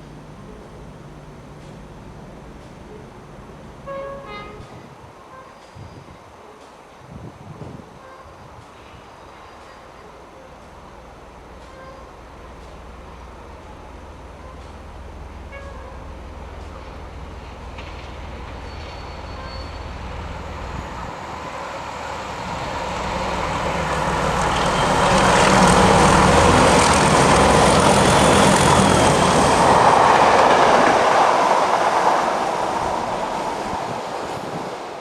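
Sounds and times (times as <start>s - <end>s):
diesel locomotive engine growling: 0.0s - 5.1s, 8.5s - 35.0s
train rumbling on rails: 0.0s - 35.0s.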